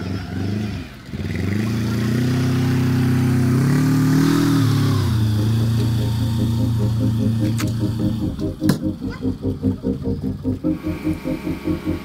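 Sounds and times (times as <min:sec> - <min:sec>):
garden tractor engine under load: 0:00.0 - 0:12.0.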